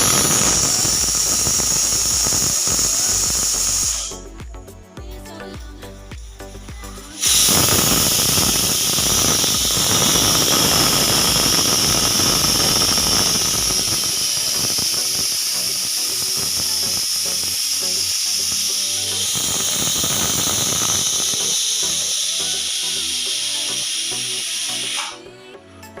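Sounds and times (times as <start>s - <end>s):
pressure cooker whistle: 0.0s - 4.3s, 7.1s - 25.2s.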